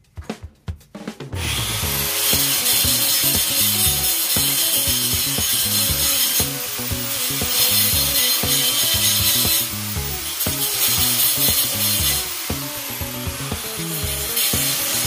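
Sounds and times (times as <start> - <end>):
background music with a beat: 0.0 - 15.0
angle grinder grinding steel: 1.4 - 15.0.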